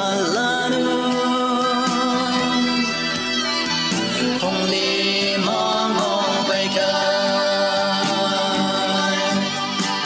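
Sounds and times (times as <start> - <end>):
gospel singing with accompaniment: 0.0 - 10.0.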